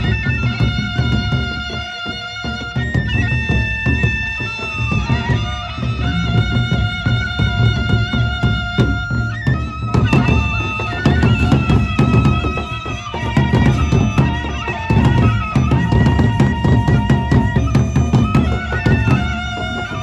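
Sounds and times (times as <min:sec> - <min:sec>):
barrel drums beaten fast: 0:00.0 - 0:20.0
held melody line: 0:00.0 - 0:20.0.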